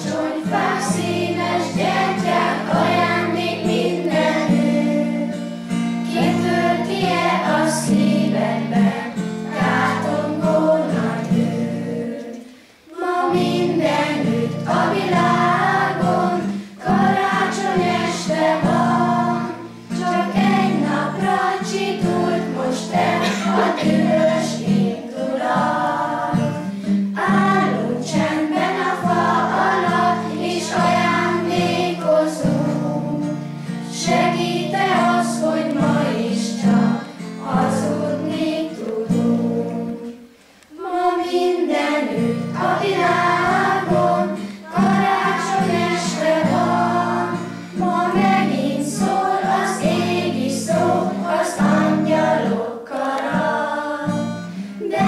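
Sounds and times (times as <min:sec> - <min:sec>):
children singing: 0:00.0 - 0:55.0.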